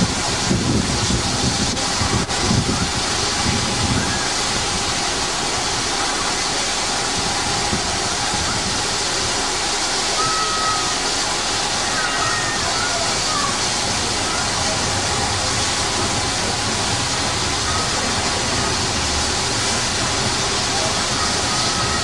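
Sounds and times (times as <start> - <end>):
steam hissing: 0.0 - 22.0
steam locomotive chuffs: 0.0 - 22.0.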